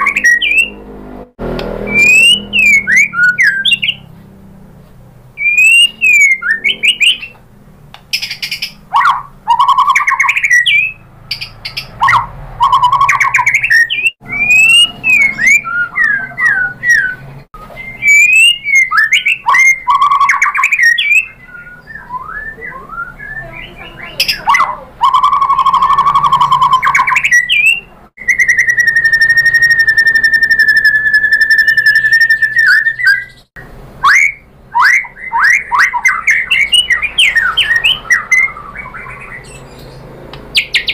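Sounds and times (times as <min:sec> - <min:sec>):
songbird singing whistled phrases: 0:00.0 - 0:00.8, 0:01.8 - 0:04.1, 0:05.4 - 0:07.4, 0:08.1 - 0:40.9.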